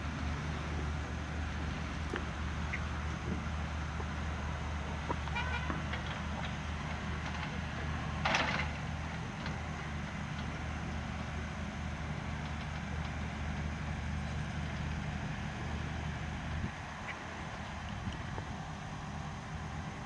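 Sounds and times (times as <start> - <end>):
machine engine idling: 0.0 - 20.0.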